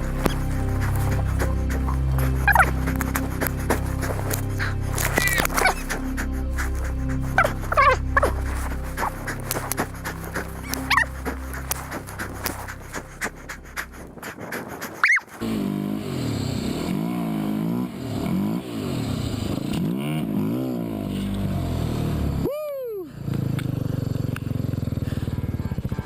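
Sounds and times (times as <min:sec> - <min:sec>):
vehicle engine revving: 0:00.0 - 0:22.5, 0:23.2 - 0:26.0.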